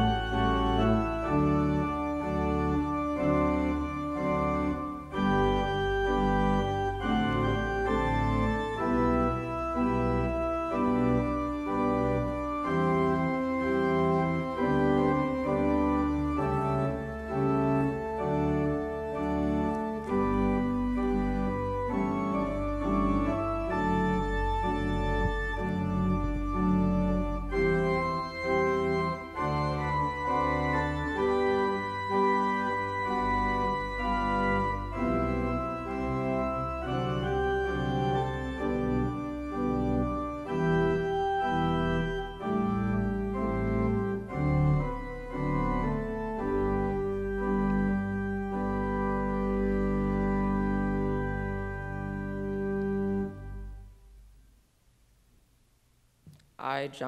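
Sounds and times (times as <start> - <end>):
pipe organ chords: 0.0 - 54.7.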